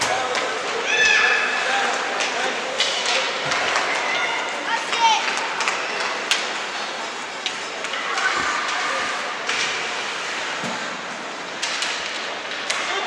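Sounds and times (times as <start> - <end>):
distant crowd chatter: 0.0 - 13.0.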